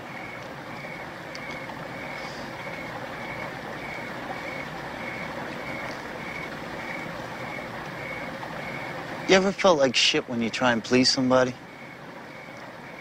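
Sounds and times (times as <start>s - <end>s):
cricket chirping: 0.0s - 9.5s, 10.9s - 13.0s
steady background hiss: 0.0s - 13.0s.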